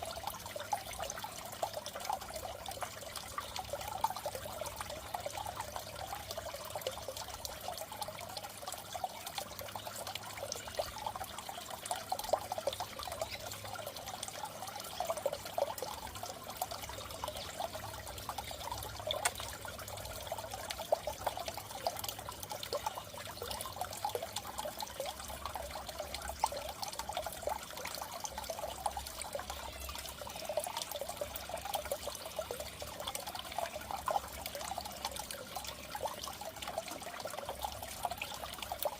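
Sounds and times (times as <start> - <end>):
water trickling in fish tank: 0.0 - 38.9.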